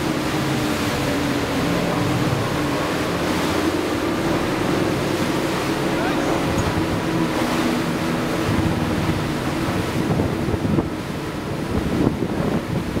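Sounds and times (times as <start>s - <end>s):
engine hum: 0.0s - 13.0s
water rushing along hull: 0.0s - 13.0s
wind buffeting microphone: 0.0s - 13.0s.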